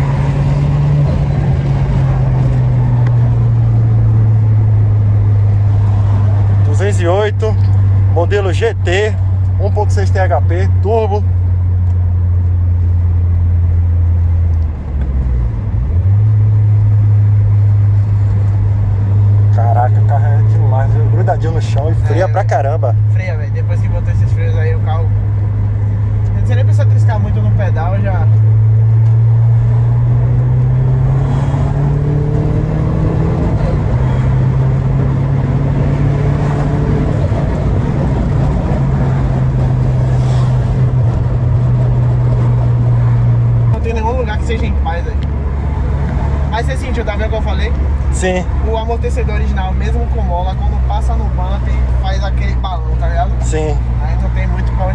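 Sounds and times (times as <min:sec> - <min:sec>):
car engine droning: 0:00.0 - 0:54.9
road noise hum: 0:00.0 - 0:54.9.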